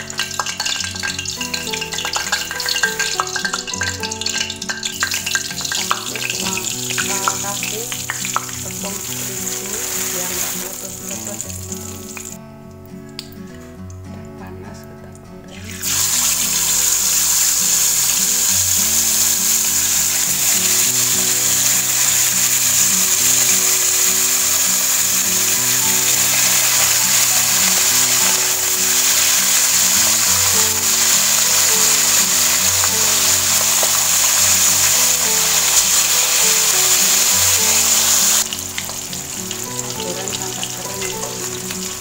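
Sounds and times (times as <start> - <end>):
fish sizzling in hot oil: 0.0 - 12.4, 15.5 - 42.0
background music: 0.0 - 42.0.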